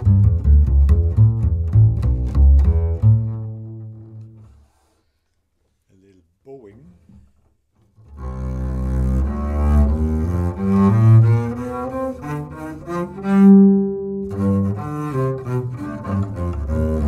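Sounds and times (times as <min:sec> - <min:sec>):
bowed double bass: 0:00.0 - 0:04.8, 0:07.9 - 0:17.0.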